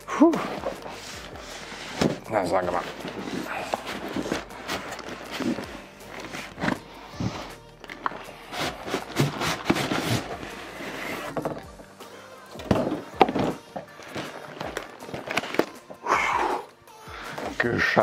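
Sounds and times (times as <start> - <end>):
cardboard scraping and rubbing: 0.4 - 11.8, 12.6 - 15.9.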